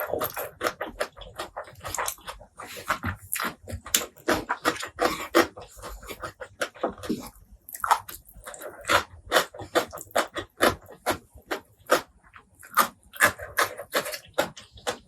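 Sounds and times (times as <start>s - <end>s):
wet chewing and crunching: 0.0s - 15.0s.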